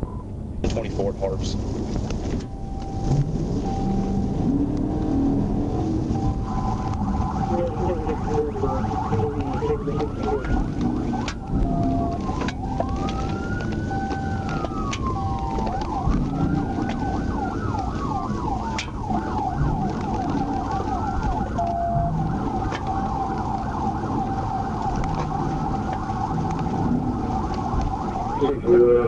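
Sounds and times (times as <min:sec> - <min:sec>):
vehicle road noise: 0:00.0 - 0:29.0
police siren wailing: 0:02.2 - 0:29.0
fast yelping siren: 0:02.6 - 0:29.0.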